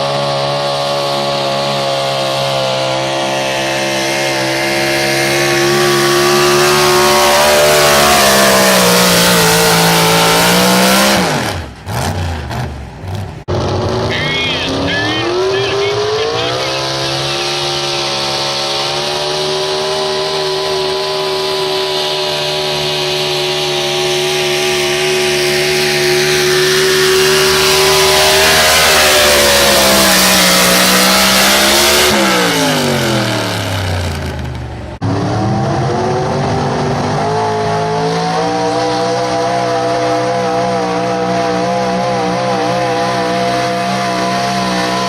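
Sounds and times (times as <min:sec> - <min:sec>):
truck engine at high revs: 0:00.0 - 0:45.0.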